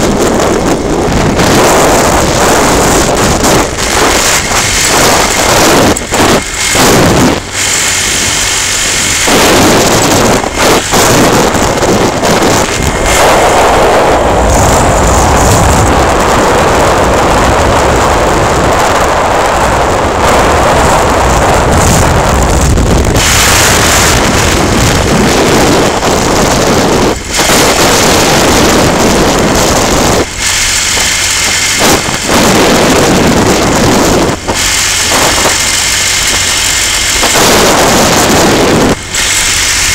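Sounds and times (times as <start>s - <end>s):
motorcycle engine: 0.0s - 39.9s
road noise: 0.0s - 39.9s
wind buffeting microphone: 0.0s - 39.9s.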